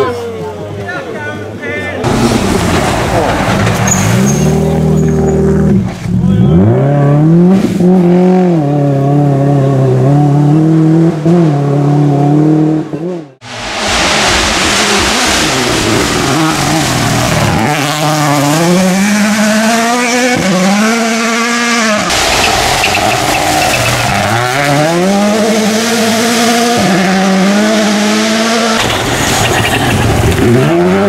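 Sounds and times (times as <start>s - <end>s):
rally car engine revving: 2.0s - 31.0s.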